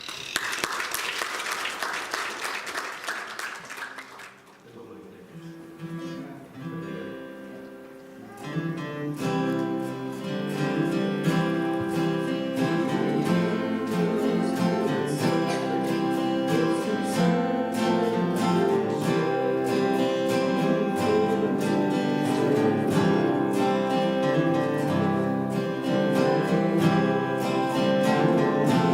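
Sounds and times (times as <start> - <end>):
acoustic guitar strumming: 5.4 - 28.9.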